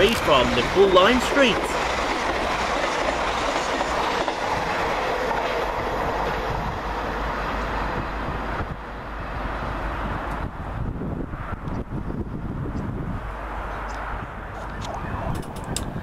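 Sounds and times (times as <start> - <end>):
express train passing at speed: 0.0 - 16.0.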